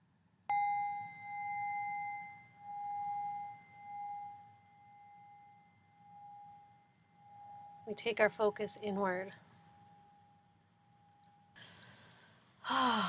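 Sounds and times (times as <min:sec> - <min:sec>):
singing bowl ringing: 0:00.5 - 0:11.6.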